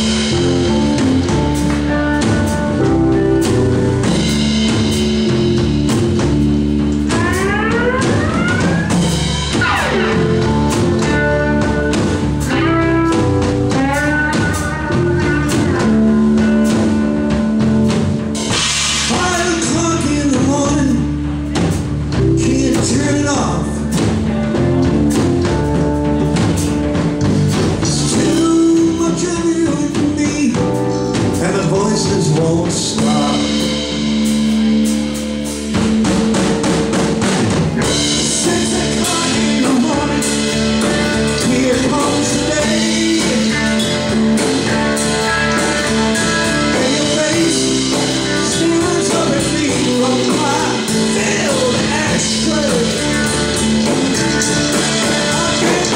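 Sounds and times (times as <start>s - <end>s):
blues band playing: 0.0s - 55.9s.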